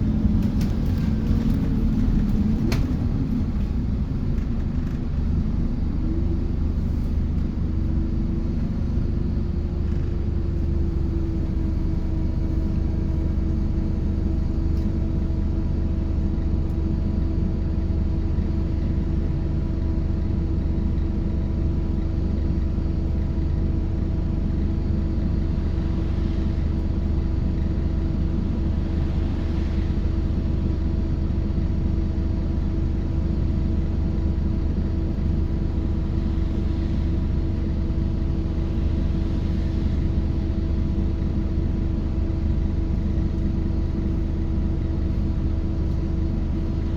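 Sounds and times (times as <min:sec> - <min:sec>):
bus engine drone: 0:00.0 - 0:46.9.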